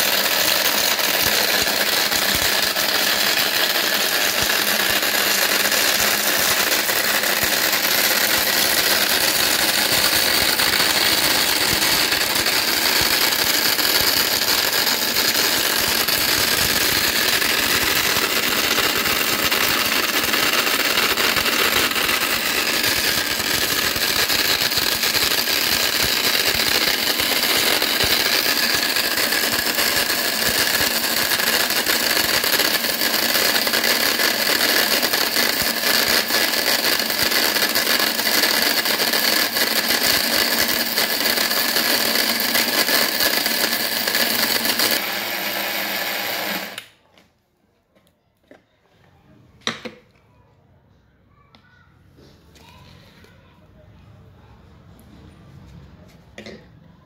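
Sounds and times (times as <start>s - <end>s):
mixer grinder motor whine: 0.0s - 47.0s.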